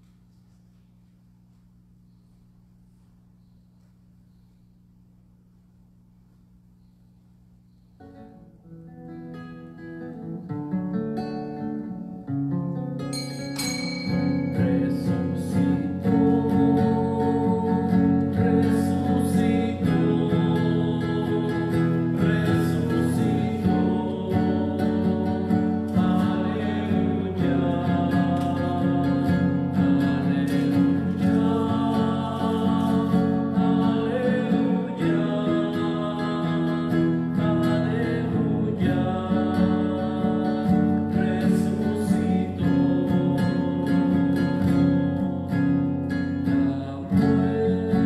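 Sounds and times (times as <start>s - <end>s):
strummed acoustic guitar music: 8.0s - 48.0s.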